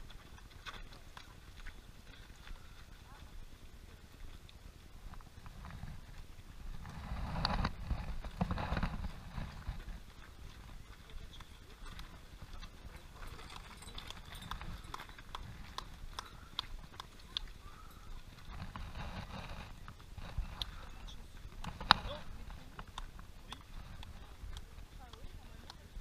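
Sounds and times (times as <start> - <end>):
running footsteps on tarmac: 0.0 - 26.0.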